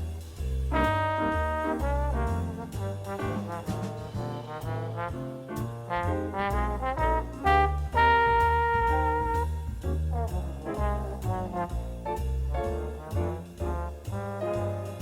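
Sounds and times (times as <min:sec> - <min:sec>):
upbeat jazzy brass music: 0:00.0 - 0:15.0.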